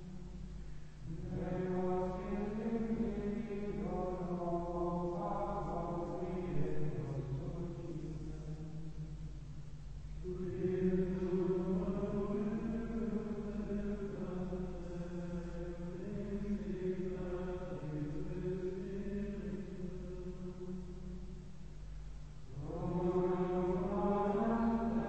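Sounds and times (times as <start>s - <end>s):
men chanting in unison: 1.1s - 8.6s, 10.2s - 20.7s, 22.5s - 25.0s.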